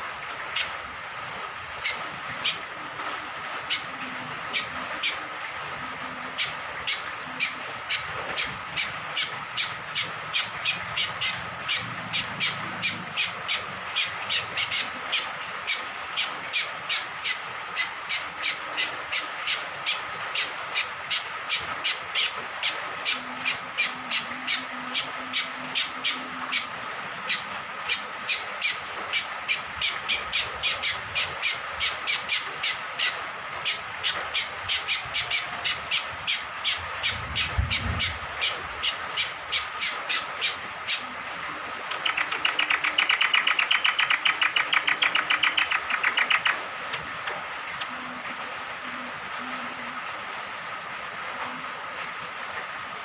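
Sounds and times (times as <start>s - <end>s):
rain hiss: 0.0s - 53.0s
bird harsh calls: 1.8s - 46.9s.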